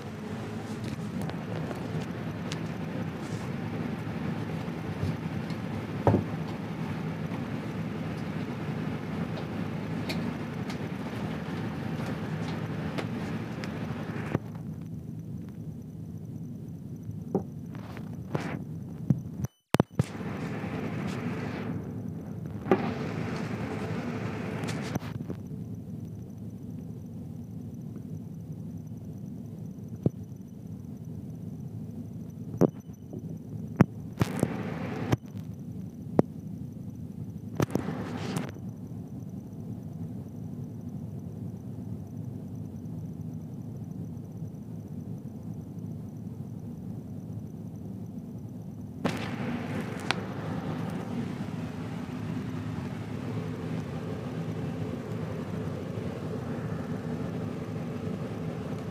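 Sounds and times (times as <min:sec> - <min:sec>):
low background rumble: 0:00.0 - 0:58.9.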